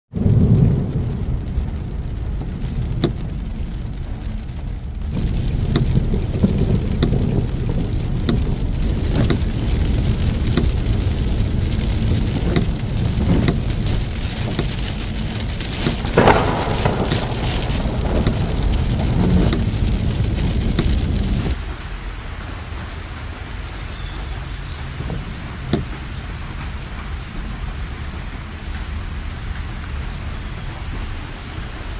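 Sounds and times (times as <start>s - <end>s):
low rumble: 0.1s - 30.8s
heavy rain: 0.1s - 31.9s.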